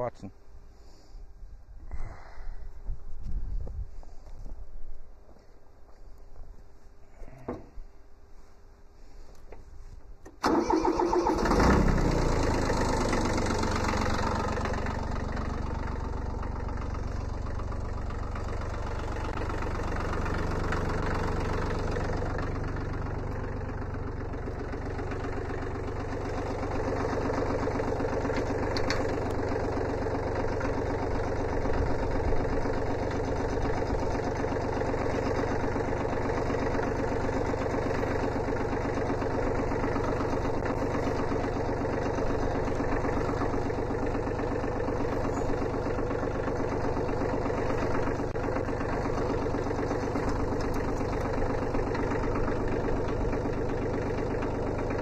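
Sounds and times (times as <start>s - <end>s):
diesel engine cranking and idling: 9.0s - 55.0s.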